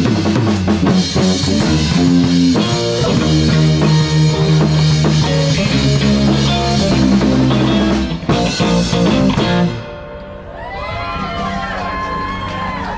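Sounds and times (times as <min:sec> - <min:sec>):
live rock band playing: 0:00.0 - 0:12.9.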